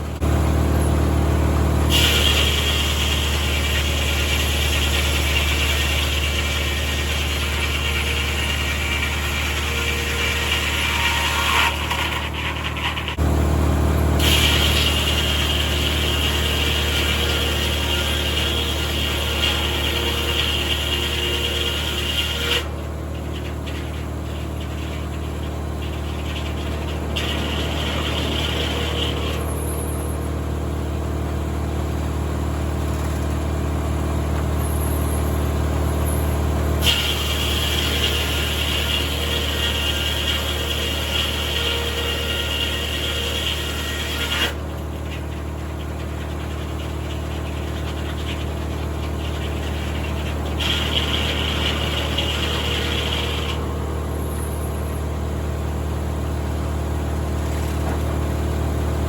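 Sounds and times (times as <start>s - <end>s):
tractor engine driving sawmill: 0.0s - 59.0s.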